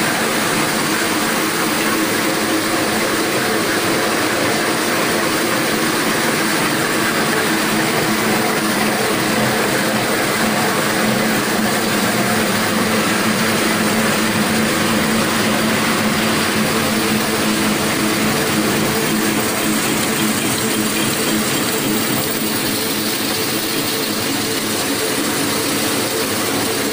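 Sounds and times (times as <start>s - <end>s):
napkin-making machine running: 0.0s - 26.9s.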